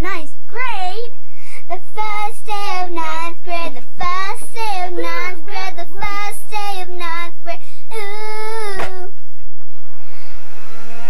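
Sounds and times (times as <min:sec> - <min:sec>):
girl singing in a high voice: 0:00.0 - 0:09.2.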